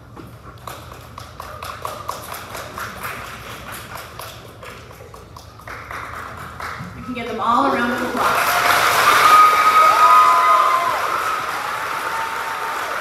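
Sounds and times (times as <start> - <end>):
audience clapping: 0.5 - 13.0.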